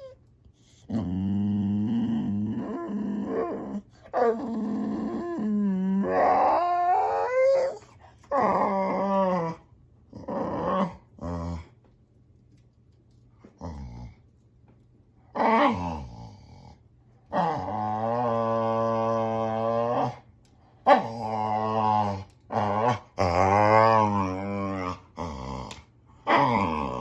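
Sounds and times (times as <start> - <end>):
dog whining moans: 0.0 - 11.8, 15.3 - 20.3, 20.9 - 27.0.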